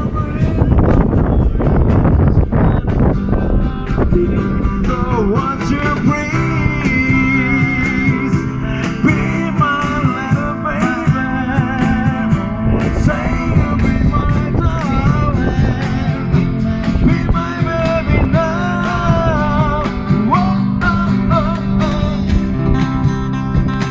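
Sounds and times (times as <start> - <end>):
rock song with guitar and vocals: 0.0 - 23.9.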